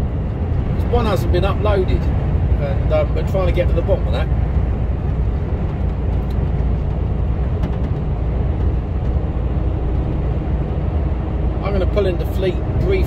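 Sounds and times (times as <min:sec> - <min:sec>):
truck engine hum: 0:00.0 - 0:13.0
tyre and road noise: 0:00.0 - 0:13.0.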